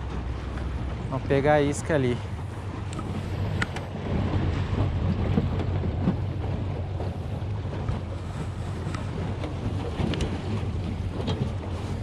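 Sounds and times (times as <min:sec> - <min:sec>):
outboard motor running: 0:00.0 - 0:12.0
water rushing past hull: 0:00.0 - 0:12.0
wind buffeting microphone: 0:00.0 - 0:12.0.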